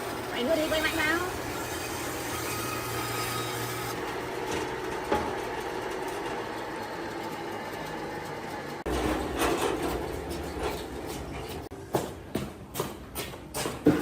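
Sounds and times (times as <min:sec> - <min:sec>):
woodworking machine humming: 0:00.0 - 0:11.7.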